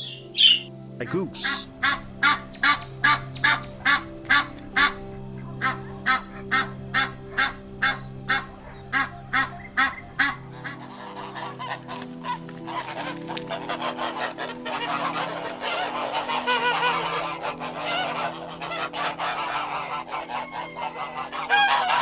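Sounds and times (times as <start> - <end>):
background music: 0.0 - 22.0
goose honking: 0.0 - 22.0.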